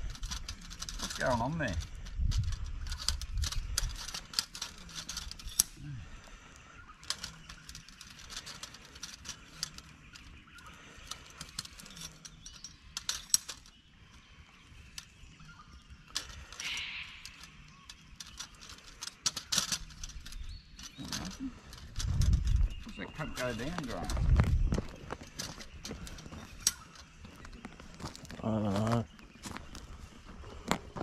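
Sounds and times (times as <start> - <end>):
scraping rustle: 0.0 - 5.8, 7.0 - 13.7, 16.1 - 31.0
metal poles clicking and rattling: 0.0 - 6.3, 7.0 - 29.0.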